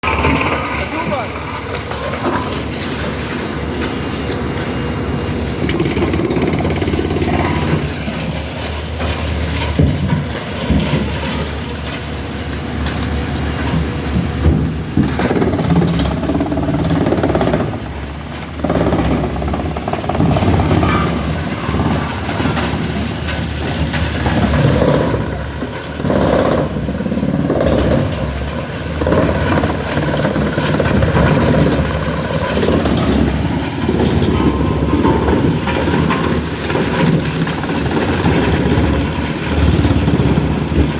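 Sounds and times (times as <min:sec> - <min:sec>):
large engine running unevenly: 0:00.0 - 0:40.9.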